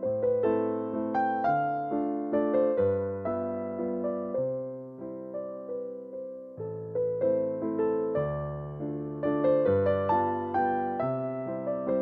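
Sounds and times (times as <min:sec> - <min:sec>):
gentle electric piano tune: 0:00.0 - 0:12.0.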